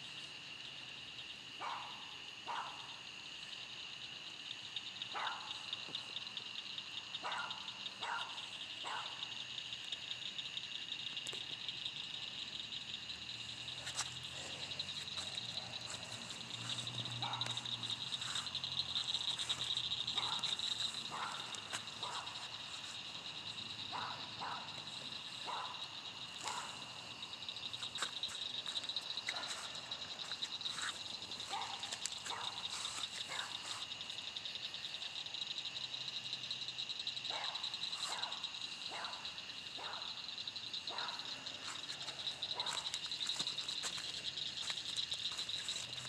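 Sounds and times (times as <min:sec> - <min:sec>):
frogs and insects trilling: 0:00.0 - 0:46.0.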